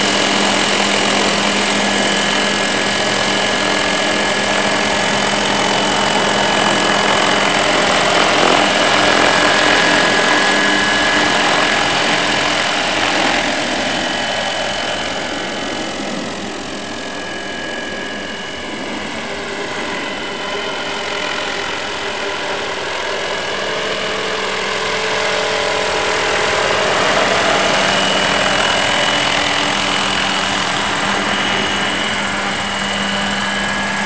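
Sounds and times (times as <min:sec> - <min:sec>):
model helicopter rotor whine: 0:00.0 - 0:34.0
turbine sound through speakers: 0:00.0 - 0:34.0.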